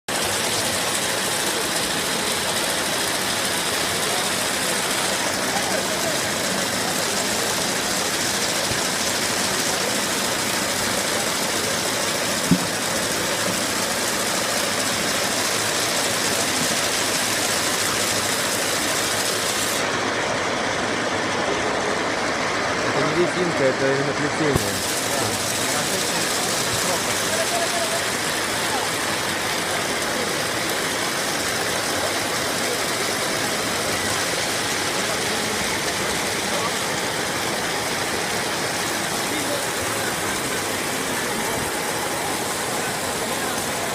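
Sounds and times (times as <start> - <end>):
braiding machine running: 0.0 - 43.9.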